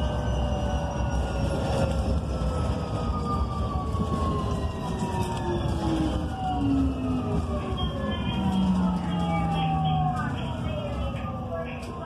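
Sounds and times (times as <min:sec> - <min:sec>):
road noise rumble: 0:00.0 - 0:12.0.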